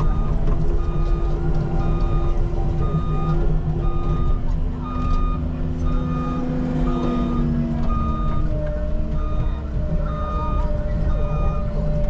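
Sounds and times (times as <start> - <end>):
backup alarm beeping: 0.0 - 11.7
heavy machine engine running: 0.0 - 12.0
hydraulics whine: 0.0 - 12.0.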